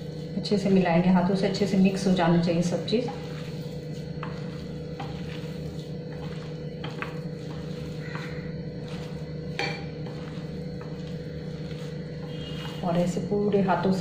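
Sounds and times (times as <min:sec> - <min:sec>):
hand squeezing soft mash: 0:00.0 - 0:13.3
steady low hum: 0:00.0 - 0:14.0.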